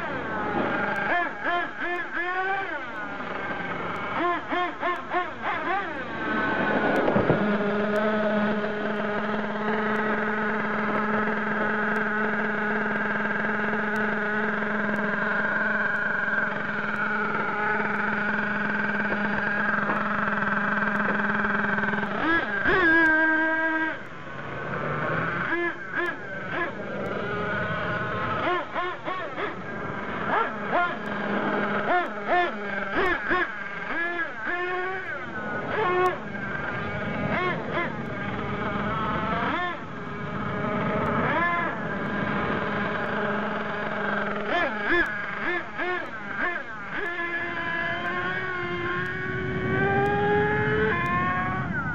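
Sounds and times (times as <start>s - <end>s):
nitro engine idling and revving: 0.0s - 51.9s.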